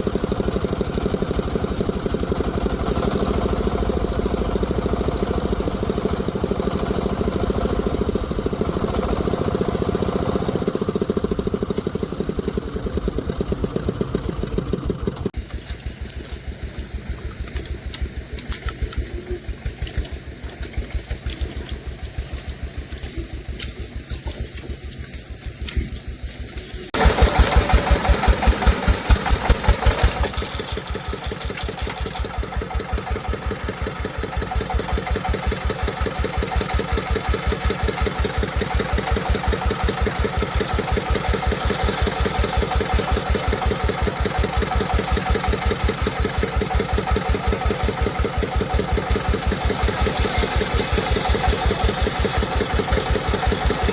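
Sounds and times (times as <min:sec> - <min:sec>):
diesel engine thumping: 0:00.0 - 0:26.2, 0:26.8 - 0:53.9.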